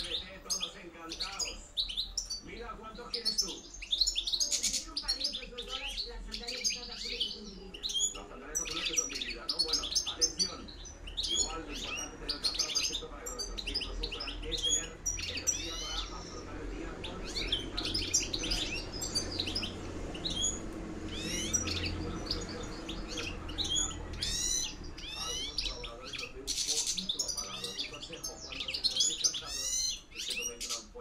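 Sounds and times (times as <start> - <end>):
goldfinch twittering song: 0.0 - 31.0.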